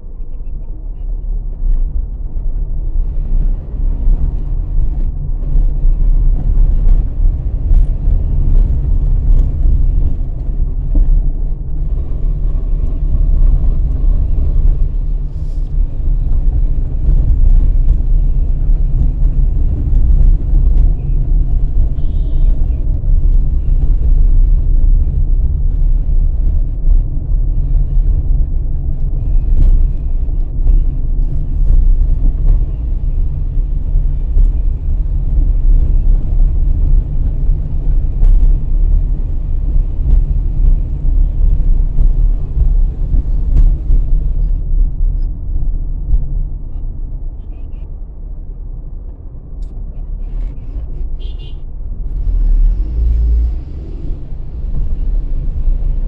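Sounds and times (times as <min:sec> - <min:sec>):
car driving road rumble: 0:00.0 - 0:56.0.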